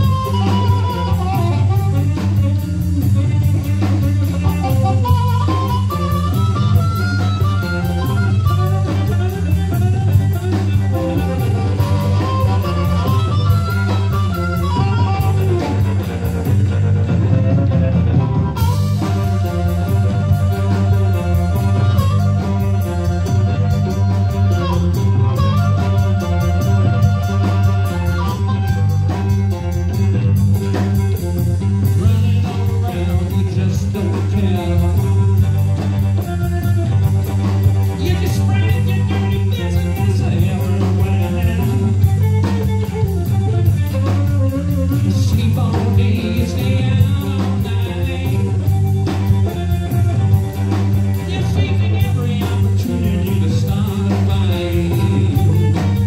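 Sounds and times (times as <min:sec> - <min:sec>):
guitar lines: 0:00.0 - 0:56.0
live blues-rock band: 0:00.0 - 0:56.0.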